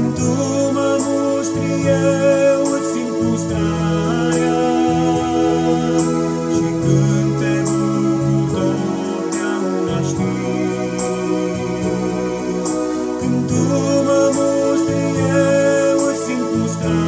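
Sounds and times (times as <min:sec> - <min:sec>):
bass line: 0:00.0 - 0:17.0
electronic keyboard organ chords: 0:00.0 - 0:17.0.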